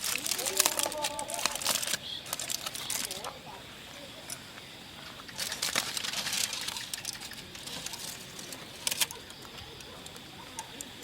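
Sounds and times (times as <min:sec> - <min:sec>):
fire crackles and pops: 0:00.0 - 0:11.0
fire sizzling hiss: 0:00.0 - 0:11.0.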